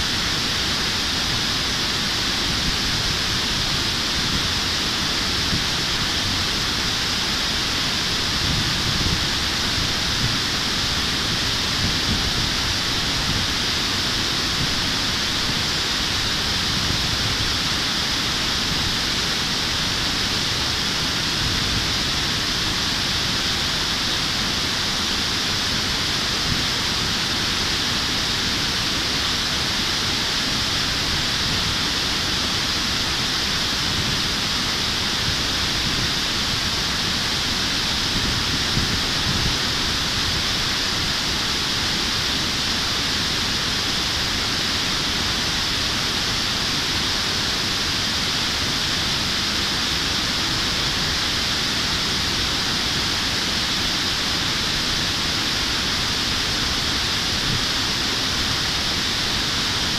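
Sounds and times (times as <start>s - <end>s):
river water pouring over weir: 0.0s - 59.9s.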